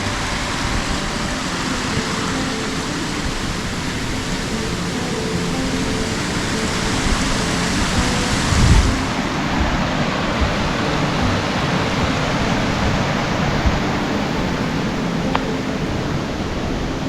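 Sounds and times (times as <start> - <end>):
small waterfall rushing: 0.0 - 17.0
wind buffeting microphone: 0.0 - 17.0.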